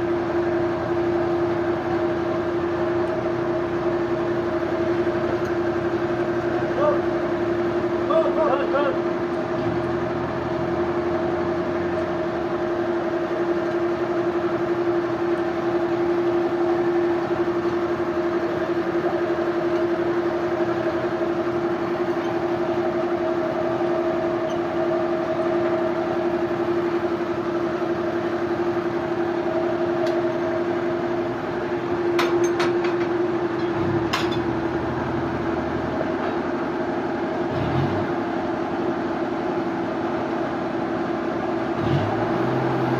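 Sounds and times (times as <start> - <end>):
sawmill machinery humming: 0.0 - 42.9.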